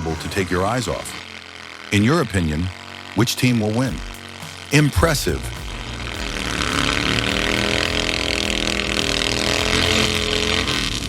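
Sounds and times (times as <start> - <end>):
petrol engine running at high revs: 0.0 - 11.0.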